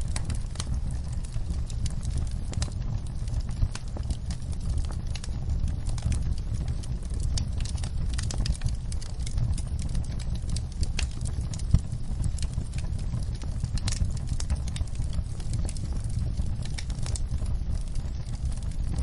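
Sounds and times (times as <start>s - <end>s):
low rumble of flames: 0.0s - 19.0s
wood fire pops and snaps: 0.0s - 19.0s.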